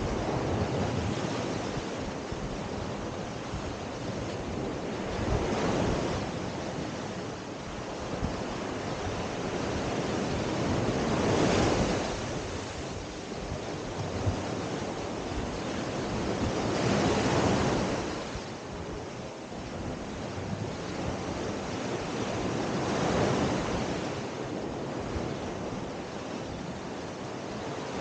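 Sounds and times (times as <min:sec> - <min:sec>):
waves washing up a sandy beach: 0:00.0 - 0:28.0.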